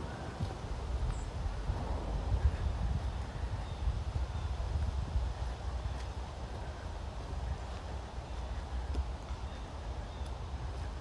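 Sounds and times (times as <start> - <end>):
footsteps on a trail: 0.0 - 11.0
steady low rumble: 0.0 - 11.0.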